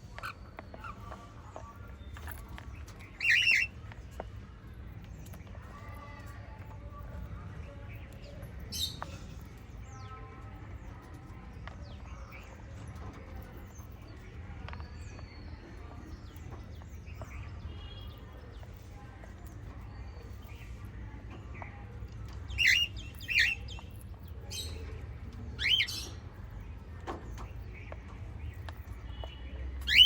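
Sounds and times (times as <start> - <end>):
parrots chirping and tweeting: 0.0 - 30.0.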